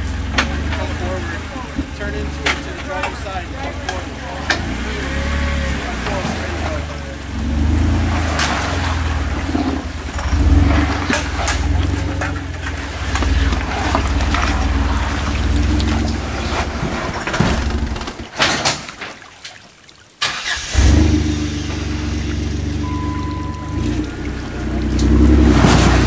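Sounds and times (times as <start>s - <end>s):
engine working under load: 0.0s - 18.4s, 20.2s - 26.0s.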